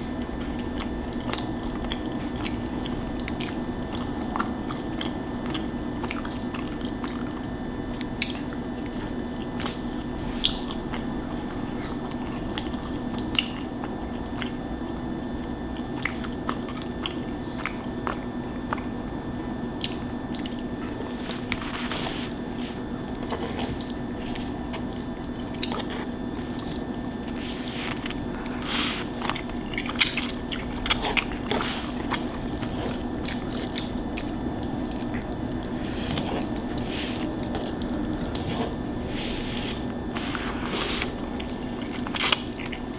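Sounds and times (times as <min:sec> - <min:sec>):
person chewing and biting: 0:00.1 - 0:14.6, 0:19.8 - 0:42.9.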